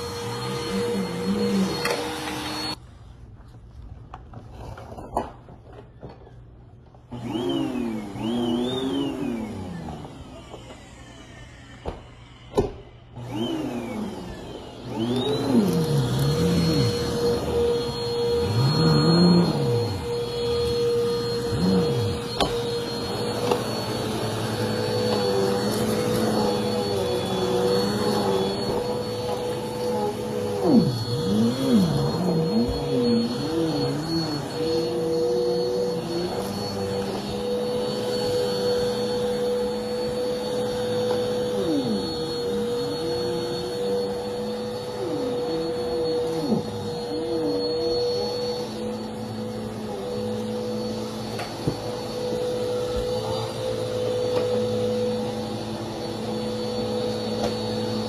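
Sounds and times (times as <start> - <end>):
vacuum cleaner whine: 0.0 - 3.1, 4.6 - 58.0.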